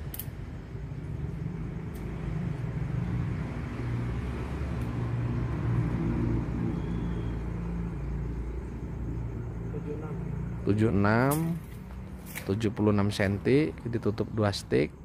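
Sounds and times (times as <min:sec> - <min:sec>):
engine running low rumble: 0:00.0 - 0:15.0.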